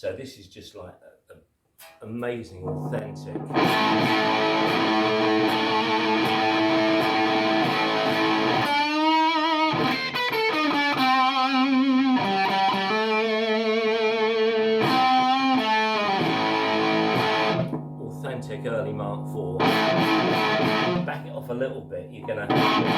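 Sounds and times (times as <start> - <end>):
fuzz electric guitar chords: 2.6 - 22.9.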